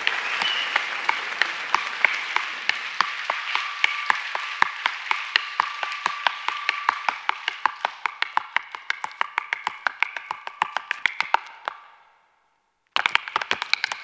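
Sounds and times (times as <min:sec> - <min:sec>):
hard-shoe dancing on a stage: 0:00.0 - 0:12.1, 0:12.9 - 0:14.0.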